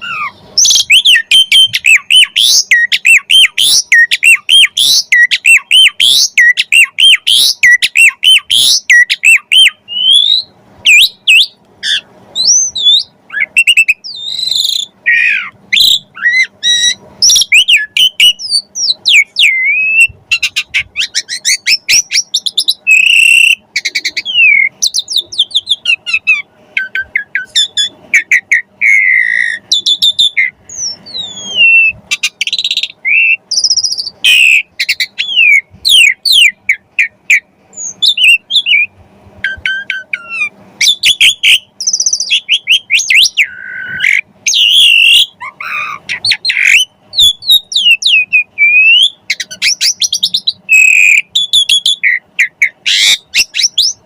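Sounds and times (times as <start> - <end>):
starling singing varied song: 0.0 - 54.0.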